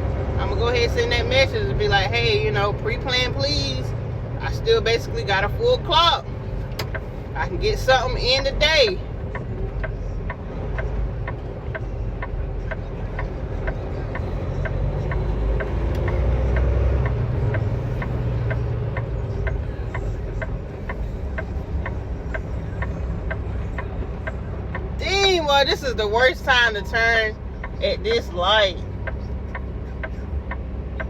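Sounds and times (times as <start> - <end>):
diesel engine idling: 0.0 - 31.0
turn signal ticking: 0.0 - 31.0.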